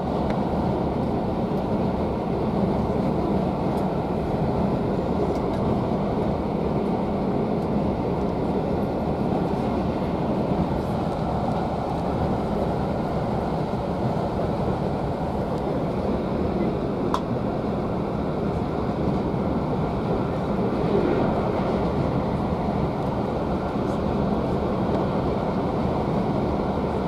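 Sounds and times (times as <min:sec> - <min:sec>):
train carriage rumbling: 0:00.0 - 0:27.0.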